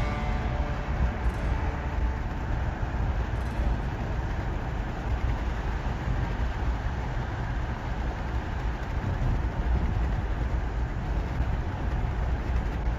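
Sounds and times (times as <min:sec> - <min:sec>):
car driving road noise: 0:00.0 - 0:12.9.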